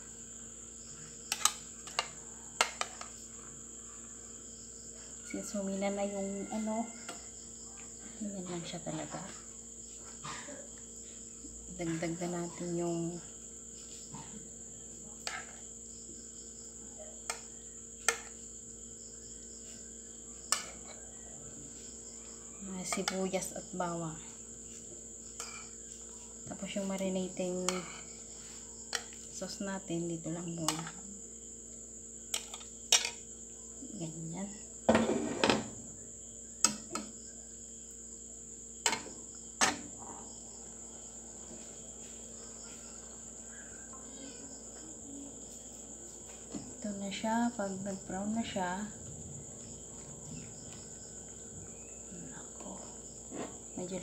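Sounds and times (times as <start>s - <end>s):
insect trill: 0.0s - 54.0s.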